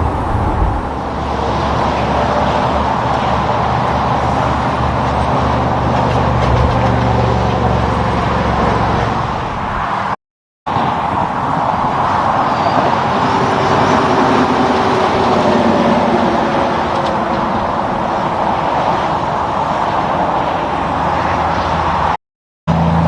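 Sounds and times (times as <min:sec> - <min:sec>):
passing vehicles tyre roar: 0:00.0 - 0:23.0.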